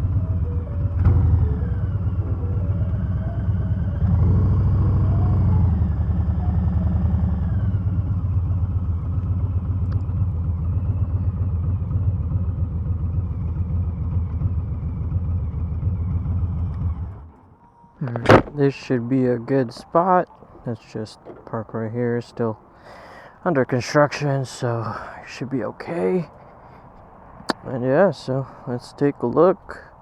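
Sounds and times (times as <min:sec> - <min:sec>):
motorcycle engine rumbling: 0:00.0 - 0:28.3.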